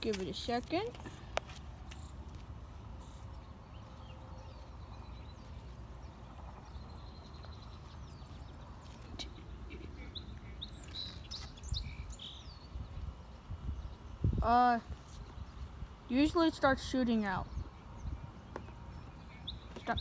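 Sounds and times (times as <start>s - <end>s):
steady low rumble: 0.0s - 19.6s
small birds chirping: 0.0s - 20.0s.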